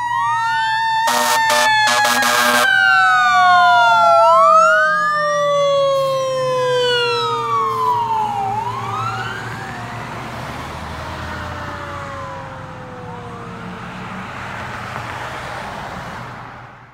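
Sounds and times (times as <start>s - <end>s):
fire engine siren wailing: 0.0s - 15.2s
truck engine and tyre noise: 0.0s - 16.9s.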